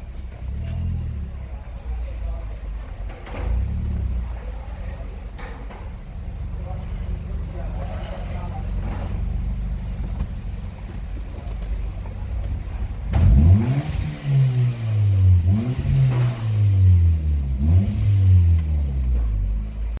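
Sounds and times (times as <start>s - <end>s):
car engine revving: 0.0s - 5.4s, 6.0s - 20.0s
car engine idling: 0.0s - 20.0s.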